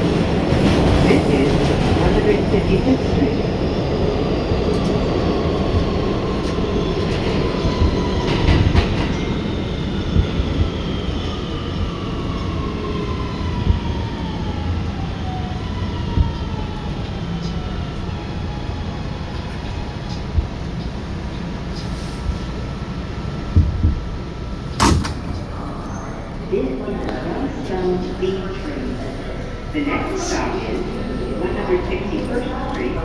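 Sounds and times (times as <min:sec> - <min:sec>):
subway train departing: 0:00.0 - 0:33.0.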